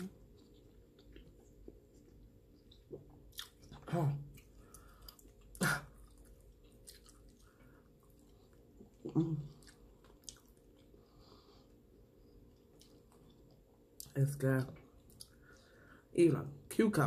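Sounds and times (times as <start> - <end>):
person chewing: 0.0 - 14.2, 14.8 - 16.0.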